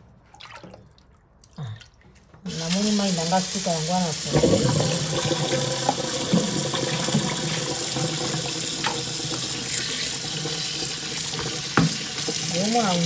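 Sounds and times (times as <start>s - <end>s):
tap water running into tub: 2.3s - 13.0s.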